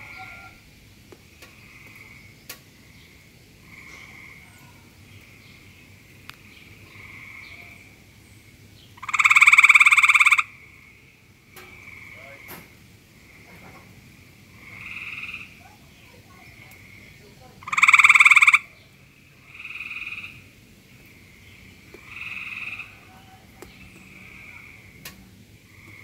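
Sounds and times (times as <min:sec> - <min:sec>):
faint frog calls: 0:00.0 - 0:26.0
tree frog rattling call: 0:00.0 - 0:26.0.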